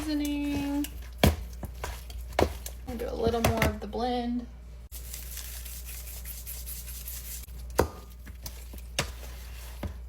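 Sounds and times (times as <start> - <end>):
raw chicken rubbing in bowl: 0.0 - 3.2, 4.9 - 10.0.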